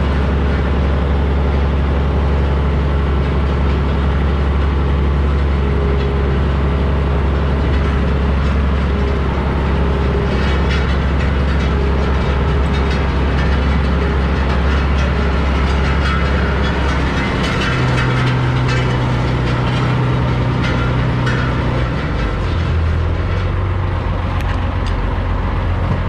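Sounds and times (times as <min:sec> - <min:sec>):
metal rattling and clanking: 0:00.0 - 0:26.0
truck engine under load: 0:00.0 - 0:26.0.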